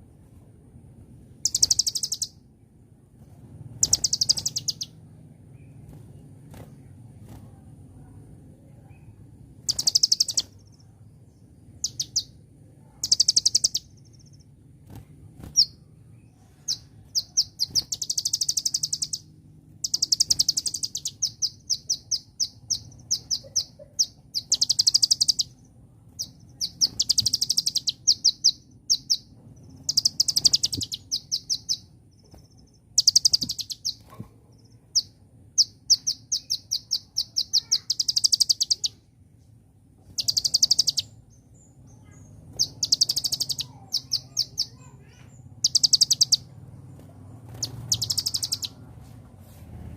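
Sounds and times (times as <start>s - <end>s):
sunbird singing: 1.3s - 2.7s, 3.8s - 39.3s, 39.9s - 48.9s.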